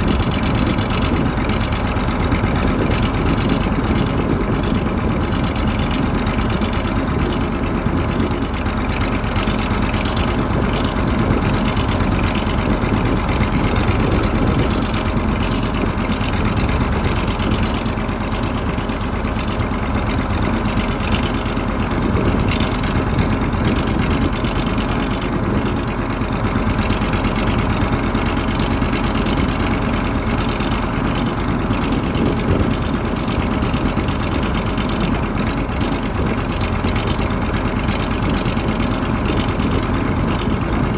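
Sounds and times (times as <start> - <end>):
truck diesel engine running loudly: 0.0 - 40.9.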